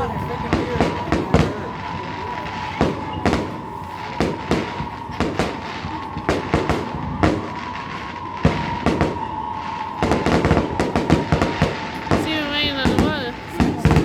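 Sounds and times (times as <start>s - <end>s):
fireworks bangs: 0.0s - 14.0s
steady high tone: 0.0s - 14.0s.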